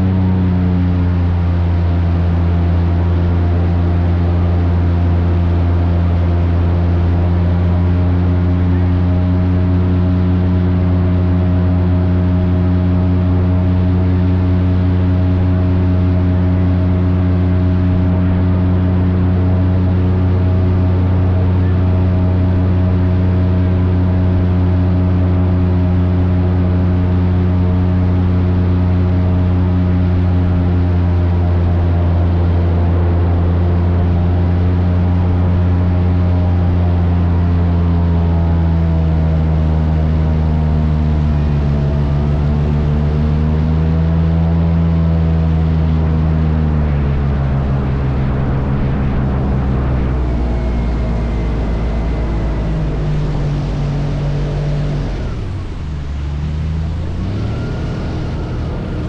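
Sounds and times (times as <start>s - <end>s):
airboat engine droning: 0.0s - 59.0s.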